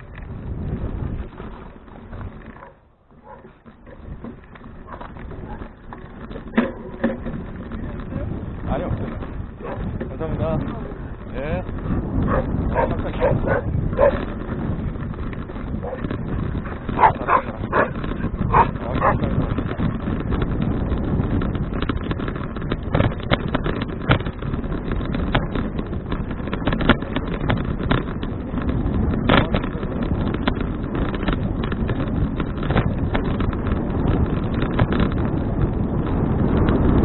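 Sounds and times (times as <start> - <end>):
bicycle ticks and rattles: 0.0 - 37.0
wind buffeting microphone: 0.0 - 37.0.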